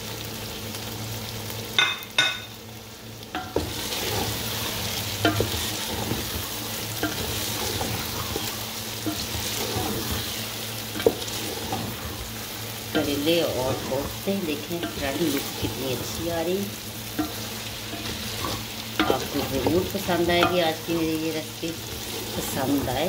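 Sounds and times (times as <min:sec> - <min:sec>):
food sizzling in oil: 0:00.0 - 0:23.0
spatula stirring: 0:03.3 - 0:23.0.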